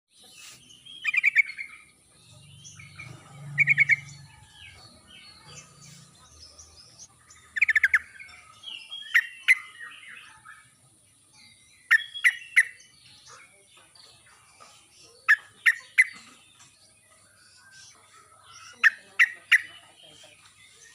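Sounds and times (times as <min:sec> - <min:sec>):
distant birds calling: 0:00.1 - 0:20.9
bulbul chattering calls: 0:00.2 - 0:20.9.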